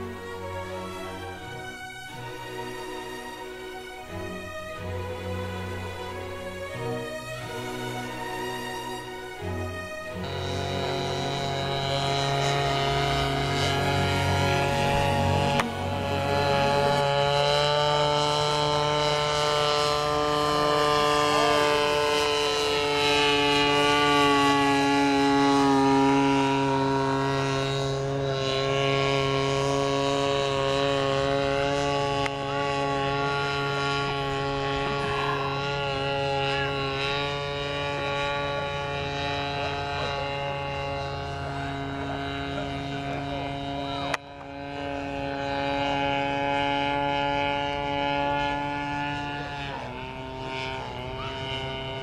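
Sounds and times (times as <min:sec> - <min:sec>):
model plane engine and propeller: 0:00.0 - 0:52.0.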